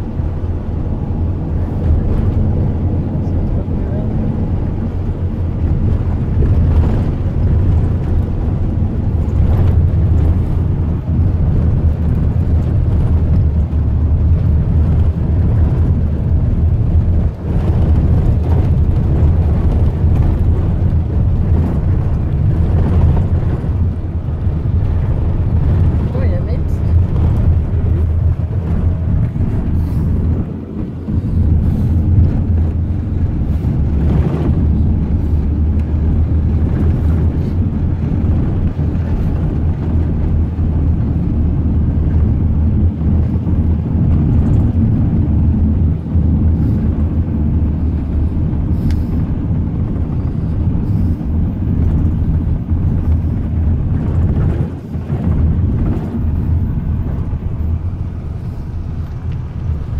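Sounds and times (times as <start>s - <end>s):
van engine and tyres rumbling: 0.0s - 59.9s.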